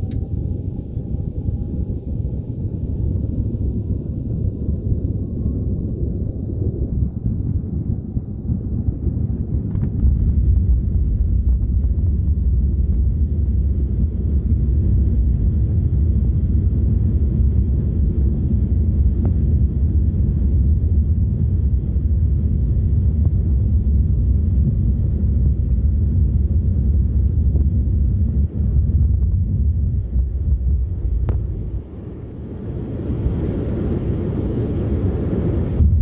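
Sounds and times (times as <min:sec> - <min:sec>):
jet engines at low thrust: 0:00.0 - 0:36.0.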